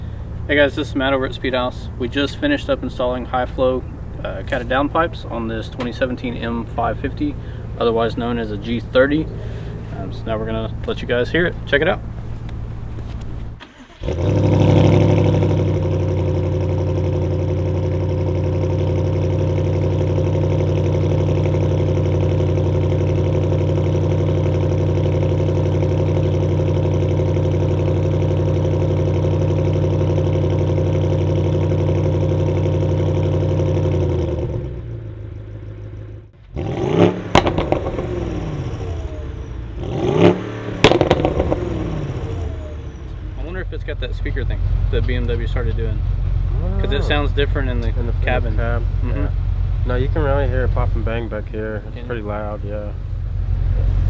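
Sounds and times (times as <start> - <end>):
car engine idling: 0.0 - 54.0
car engine revving: 0.0 - 54.0
exhaust cracks: 0.0 - 54.0.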